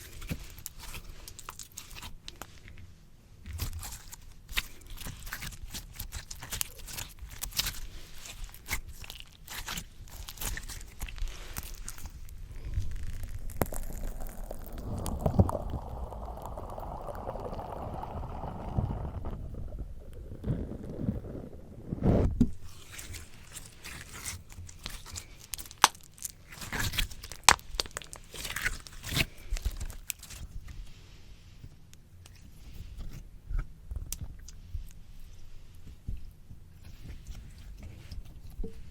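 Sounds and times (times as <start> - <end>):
slime squishing with wet pops: 0.0 - 20.3, 22.4 - 30.9, 31.7 - 35.1.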